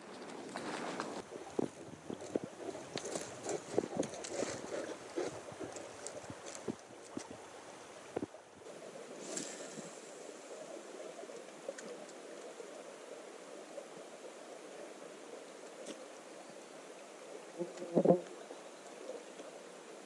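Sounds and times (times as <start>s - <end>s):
river water flowing: 0.0s - 17.6s.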